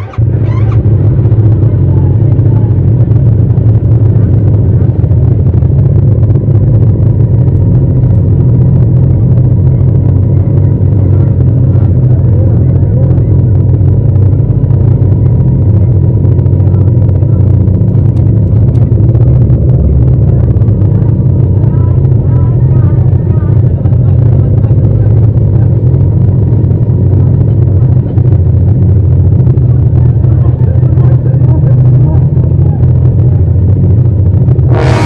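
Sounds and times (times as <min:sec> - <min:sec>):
motorcycle engine rumbling: 0:00.0 - 0:35.0.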